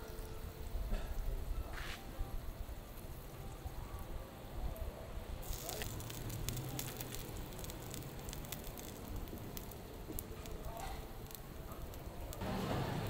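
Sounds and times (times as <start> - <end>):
oil sizzling on a griddle: 0.0 - 13.0.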